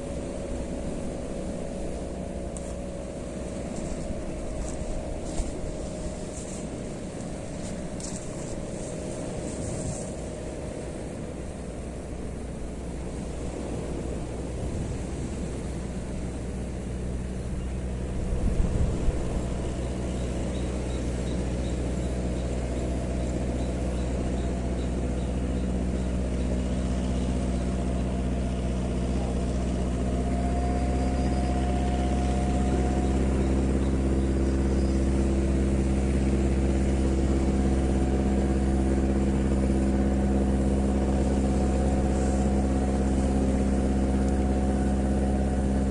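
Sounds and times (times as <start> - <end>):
engine humming: 0.0 - 45.9.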